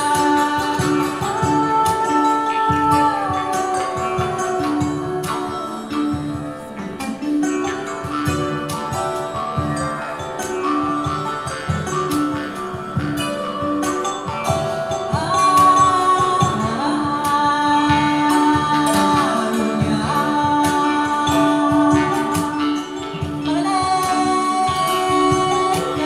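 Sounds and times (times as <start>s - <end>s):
hand drum: 0.0s - 26.0s
plucked strings: 0.0s - 26.0s
woman singing: 0.0s - 26.0s.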